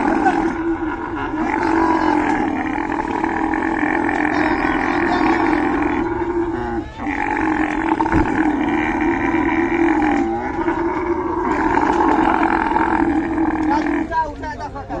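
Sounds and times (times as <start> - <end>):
camel bellowing: 0.0 - 15.0.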